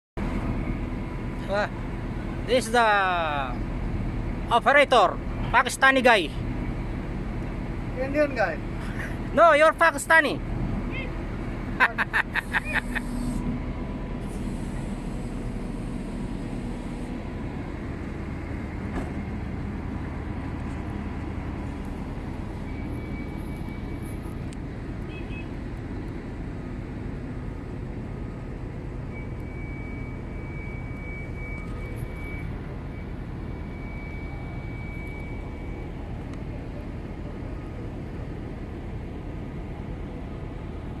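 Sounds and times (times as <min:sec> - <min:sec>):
diesel engine droning: 0:00.2 - 0:41.0.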